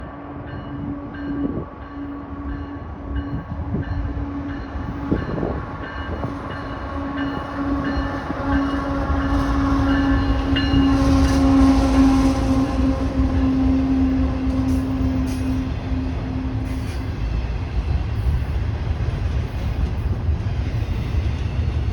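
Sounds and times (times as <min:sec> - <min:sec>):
train rumble: 0:00.0 - 0:21.9.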